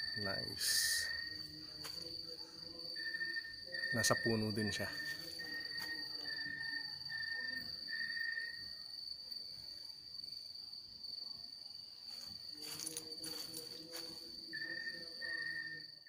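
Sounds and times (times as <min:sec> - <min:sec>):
insect high-pitched trill: 0:00.0 - 0:16.0
insect pulsing call: 0:00.0 - 0:16.0.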